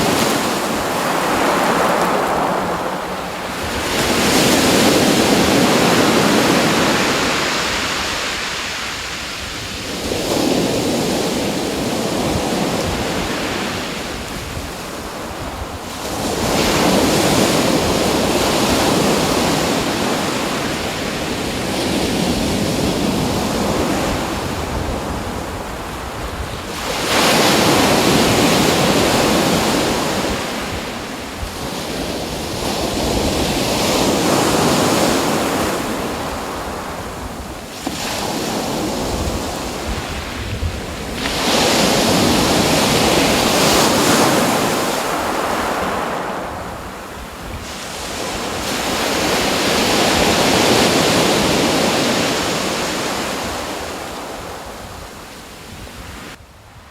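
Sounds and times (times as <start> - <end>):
sea waves washing in: 0.0 - 56.4.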